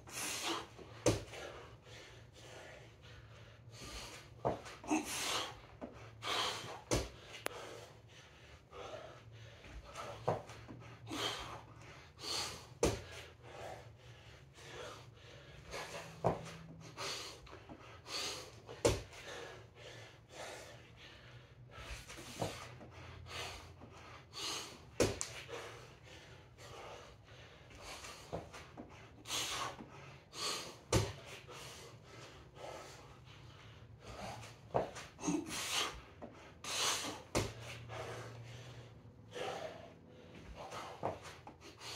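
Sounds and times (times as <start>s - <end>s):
man breathing hard: 0.0s - 41.9s.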